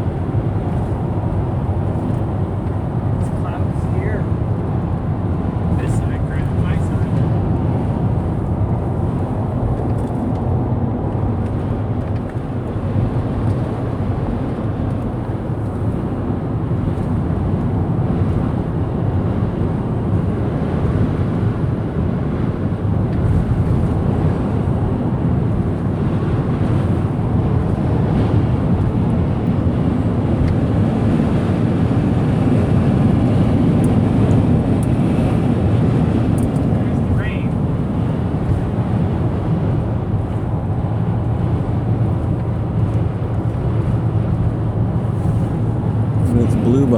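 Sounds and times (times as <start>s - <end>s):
road and engine rumble: 0.0s - 46.9s
wind noise in car: 0.0s - 46.9s.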